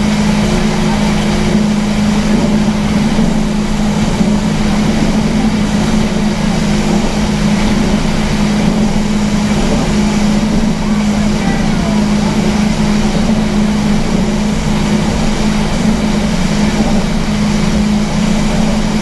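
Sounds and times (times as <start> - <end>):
speedboat engine droning: 0.0 - 19.0
water rushing: 0.0 - 19.0.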